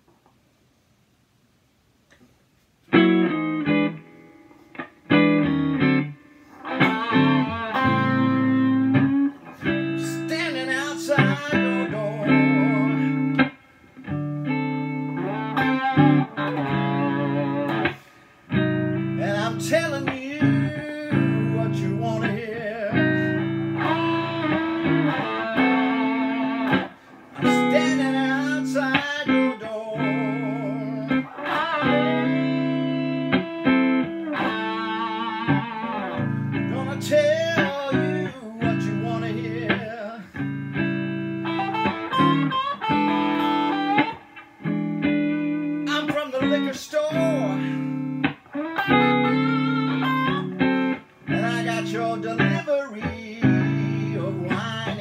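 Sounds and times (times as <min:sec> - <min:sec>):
electric guitar blues licks: 0:02.8 - 0:55.0.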